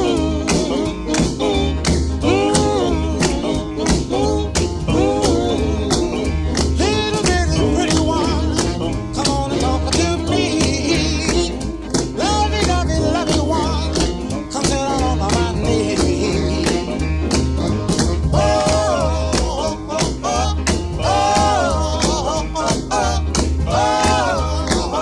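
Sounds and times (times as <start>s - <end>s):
upbeat song with singing and guitar: 0.0s - 25.0s.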